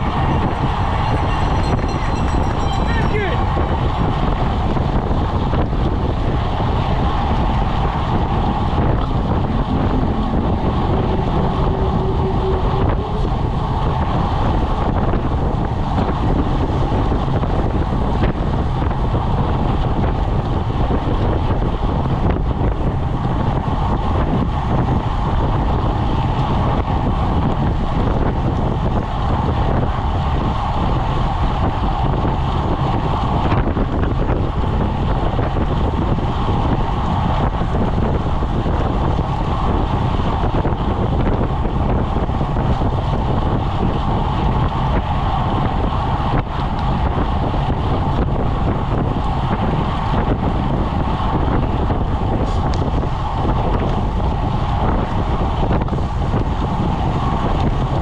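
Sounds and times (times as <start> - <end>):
wind rumbling on microphone: 0.0 - 58.0.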